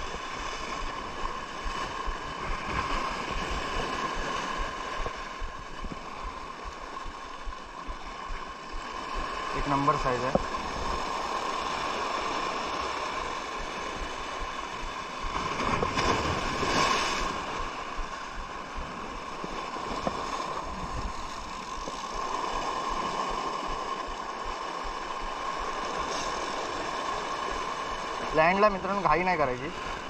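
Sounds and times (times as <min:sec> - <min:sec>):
moving water: 0:00.0 - 0:30.0
wind: 0:00.0 - 0:30.0.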